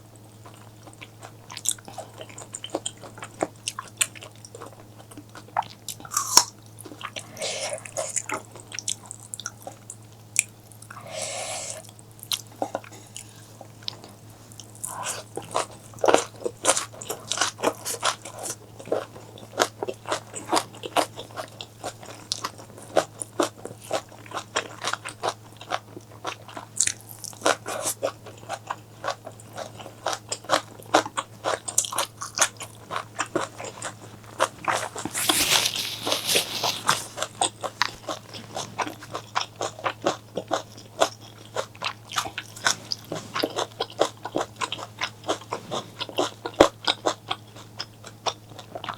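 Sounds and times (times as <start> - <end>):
person chewing crunchy food: 0.4 - 48.9.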